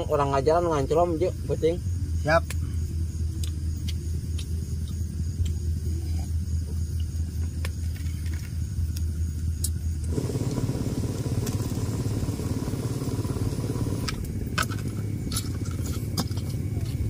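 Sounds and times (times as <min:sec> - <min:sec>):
engine hum and rumble: 0:00.0 - 0:17.0.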